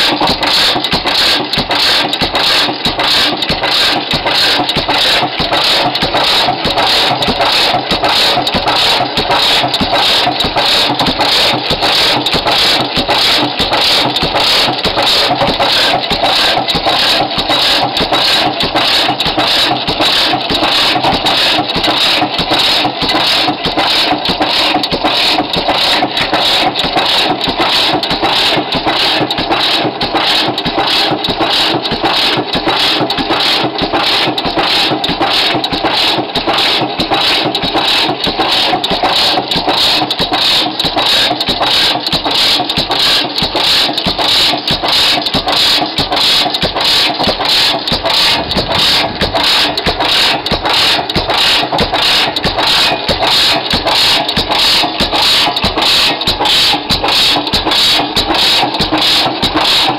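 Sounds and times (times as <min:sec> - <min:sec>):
stationary engine clattering: 0:00.0 - 0:59.9.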